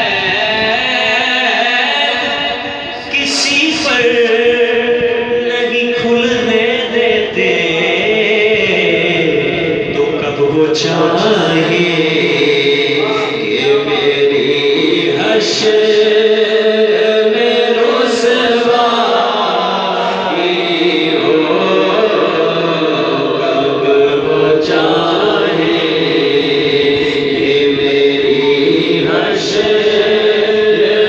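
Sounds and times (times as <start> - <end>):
men singing devotional chant: 0.0 - 31.0.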